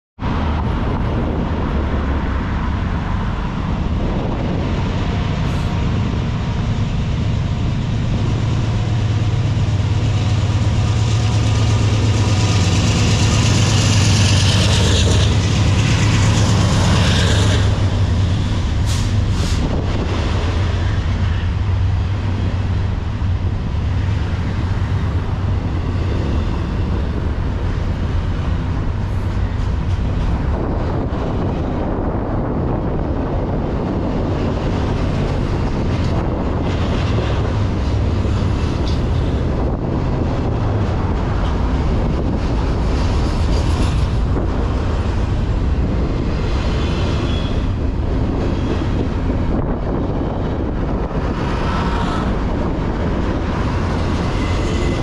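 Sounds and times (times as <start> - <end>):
diesel locomotives droning: 0.2 - 55.0
freight train rumbling by: 0.2 - 55.0.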